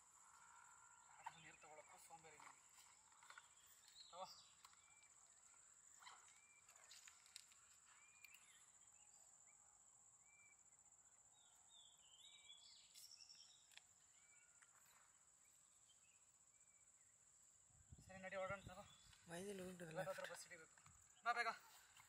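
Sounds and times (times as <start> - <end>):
small bird chirps: 1.1 - 9.3, 11.4 - 17.1, 18.0 - 22.0.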